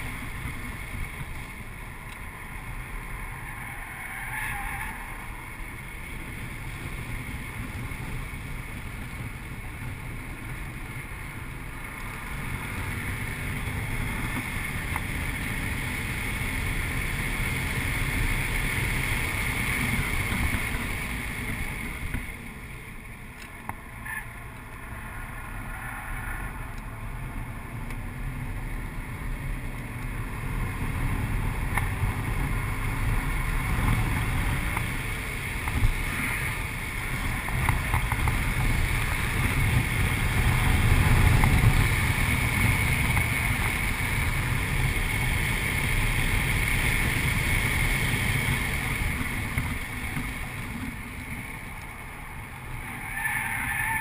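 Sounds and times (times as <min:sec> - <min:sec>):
car engine running hard: 0:00.0 - 0:54.0
wind and road noise: 0:00.0 - 0:54.0.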